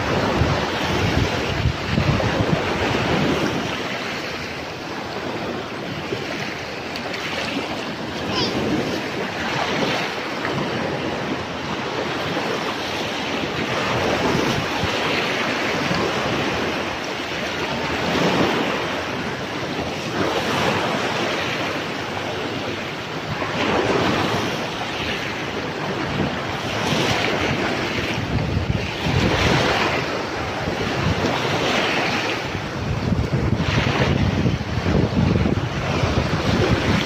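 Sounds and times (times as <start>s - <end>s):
small waves washing onto sand: 0.0s - 37.0s
wind blowing across microphone: 0.0s - 37.0s.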